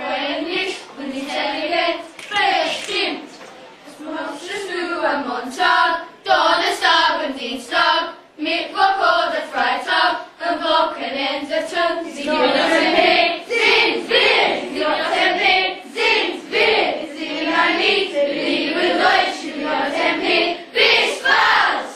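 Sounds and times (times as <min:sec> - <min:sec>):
children singing in unison: 0:00.0 - 0:21.9.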